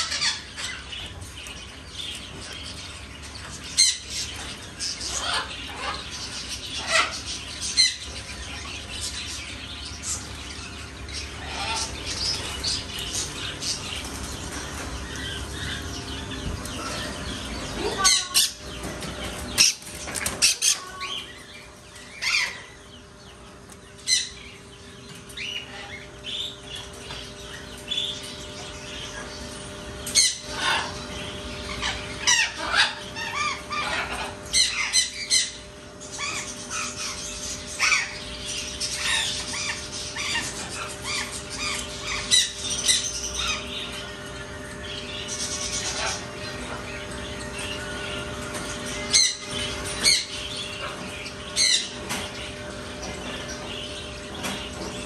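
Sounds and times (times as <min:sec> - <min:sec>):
caged birds chirping: 0:00.0 - 0:55.0.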